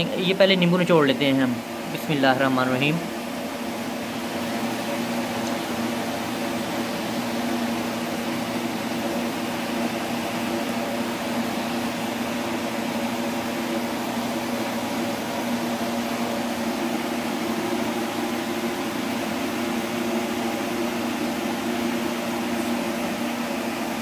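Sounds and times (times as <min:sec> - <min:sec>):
mechanical hum with droning tones: 0:00.0 - 0:24.0.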